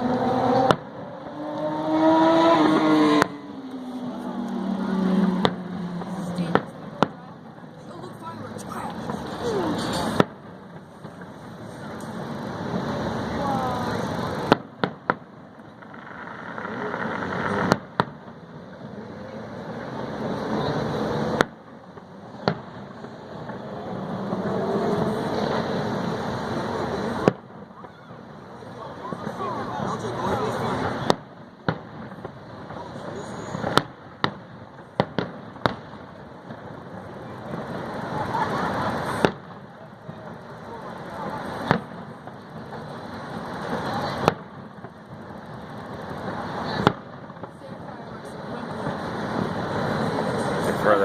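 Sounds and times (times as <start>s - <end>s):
constant background noise: 0.0s - 51.0s
fireworks bursting: 0.0s - 51.0s.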